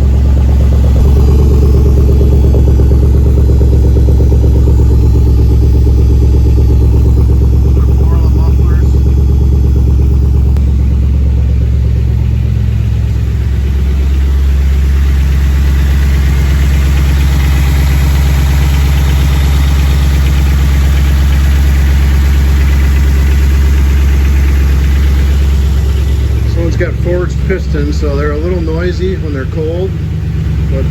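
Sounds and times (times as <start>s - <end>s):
engine idling with piston rattle: 0.0s - 30.9s.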